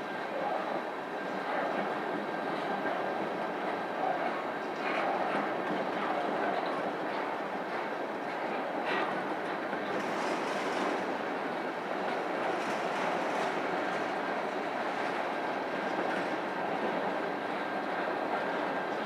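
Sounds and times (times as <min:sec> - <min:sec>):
train wheels rolling on rail: 0:00.8 - 0:19.0.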